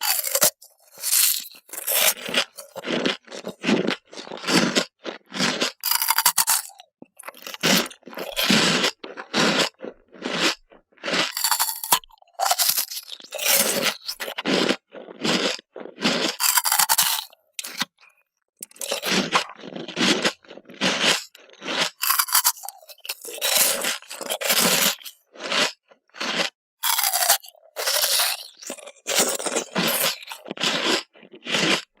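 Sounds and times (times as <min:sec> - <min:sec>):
ice cubes crunched between teeth: 0:00.0 - 0:18.0, 0:18.6 - 0:32.0.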